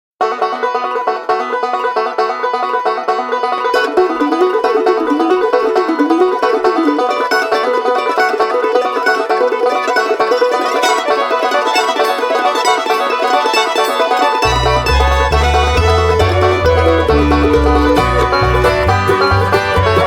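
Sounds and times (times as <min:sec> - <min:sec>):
bluegrass band music: 0:00.2 - 0:20.0.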